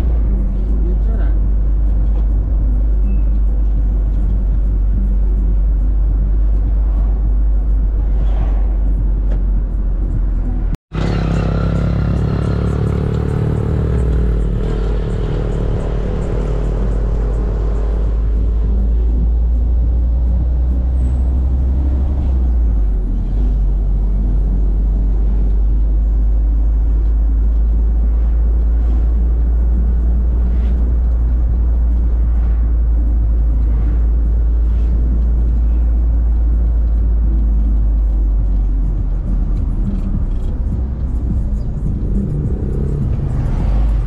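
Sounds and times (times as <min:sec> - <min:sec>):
vehicle engine and road rumble: 0:00.0 - 0:44.0.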